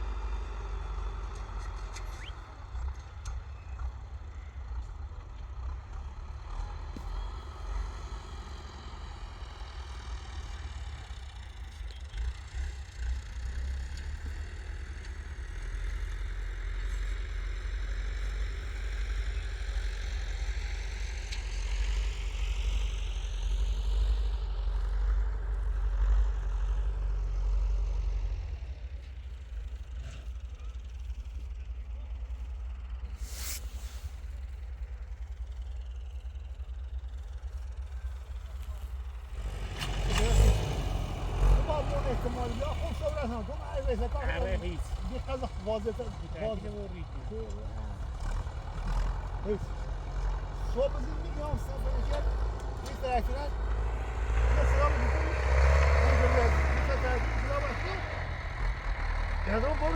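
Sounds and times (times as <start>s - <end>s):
engine rumbling and revving: 0.0s - 59.9s.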